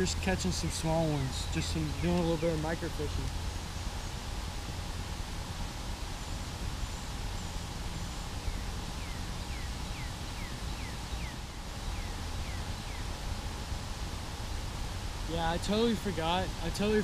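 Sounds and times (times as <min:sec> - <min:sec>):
low rumble and hiss outdoors: 0:00.0 - 0:17.0.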